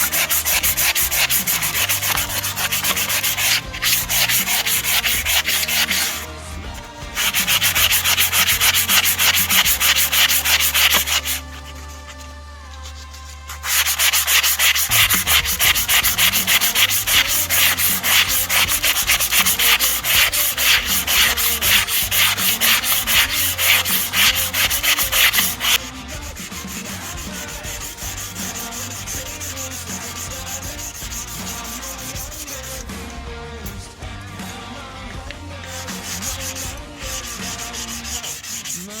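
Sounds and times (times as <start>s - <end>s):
sandpaper rubbing on metal wheel: 0.0s - 33.1s, 34.5s - 39.0s.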